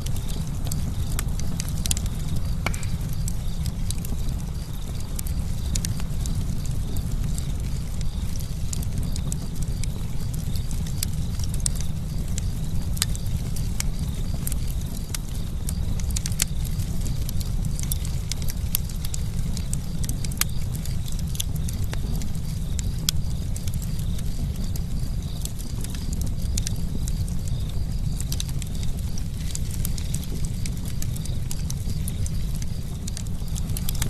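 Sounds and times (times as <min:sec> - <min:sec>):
sharp pops and snaps: 0:00.0 - 0:27.5
campfire crackling: 0:00.0 - 0:34.0
low fire rumble: 0:00.0 - 0:34.0.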